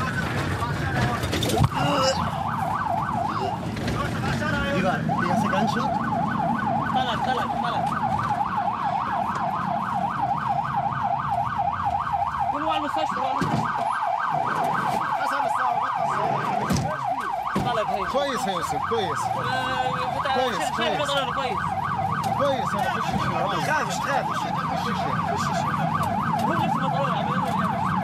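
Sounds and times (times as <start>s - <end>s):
ambulance siren yelping: 0.0s - 28.0s
lower rising and falling siren: 0.0s - 28.0s.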